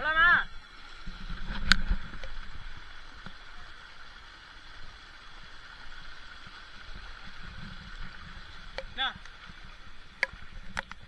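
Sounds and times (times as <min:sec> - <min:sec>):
rain: 0:00.0 - 0:11.0
stream water running: 0:00.0 - 0:11.0
faint ticks: 0:00.5 - 0:03.5, 0:04.6 - 0:11.0.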